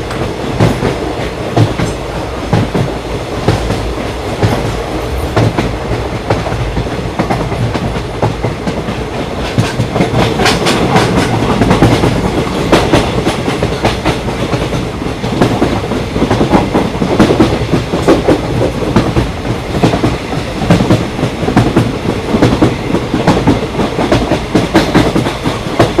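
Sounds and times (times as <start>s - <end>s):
train rumble: 0.0s - 26.0s
train wheels clacking: 0.0s - 26.0s.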